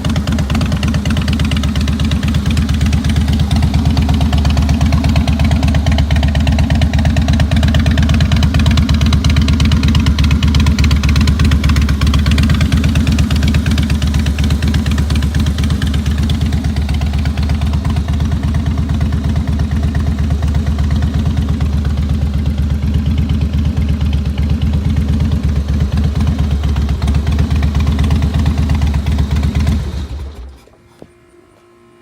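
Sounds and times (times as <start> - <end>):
motorcycle engine idling: 0.0 - 30.7.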